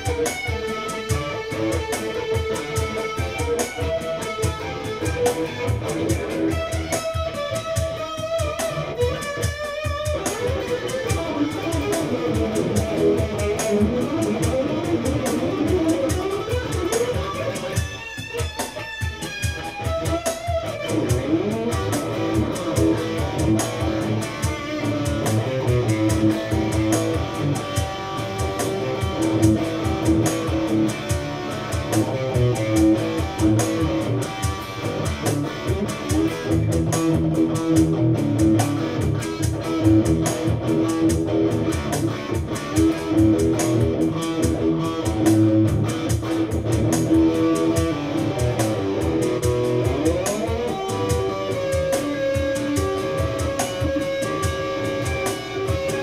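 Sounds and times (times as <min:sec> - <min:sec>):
electric guitar lead lines: 0:00.0 - 0:56.0
steady beat: 0:00.0 - 0:56.0.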